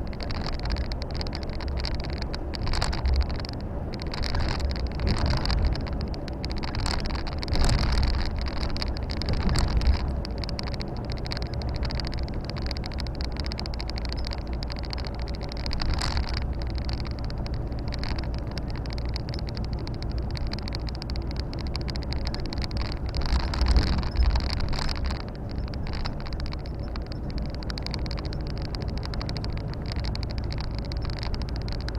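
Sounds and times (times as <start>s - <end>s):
truck diesel engine drone: 0.0s - 31.9s.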